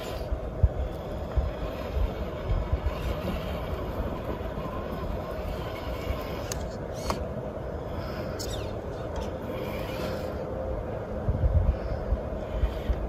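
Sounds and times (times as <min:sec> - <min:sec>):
electric motor whir: 0:00.0 - 0:11.2.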